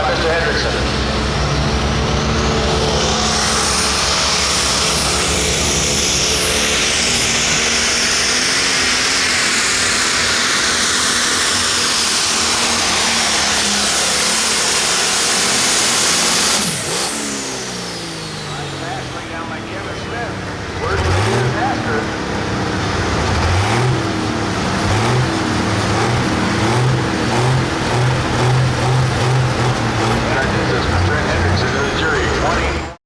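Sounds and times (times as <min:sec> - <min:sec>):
diesel engine at full throttle: 0:00.0 - 0:33.0
high whine: 0:00.0 - 0:33.0.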